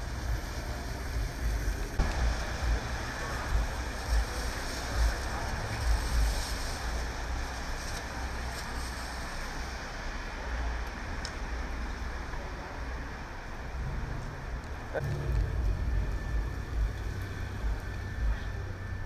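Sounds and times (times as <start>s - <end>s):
rain hissing: 0.0s - 19.0s
tyres swishing on wet road: 0.0s - 19.0s.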